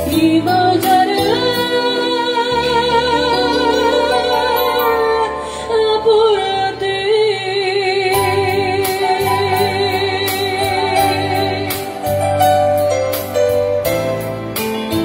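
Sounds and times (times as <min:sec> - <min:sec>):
woman singing with vibrato: 0:00.0 - 0:12.2
electronic keyboard chords: 0:00.0 - 0:15.0.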